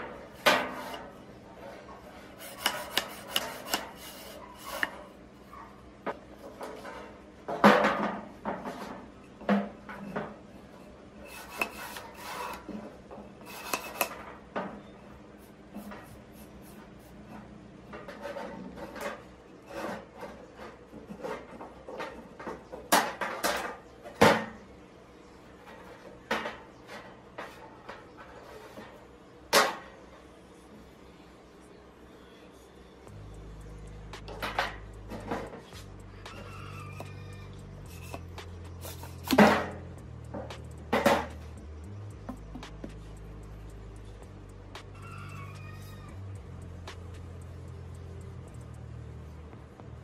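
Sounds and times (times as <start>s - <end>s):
parts scraping and rubbing: 0.0s - 23.8s, 25.5s - 29.9s, 33.0s - 49.5s.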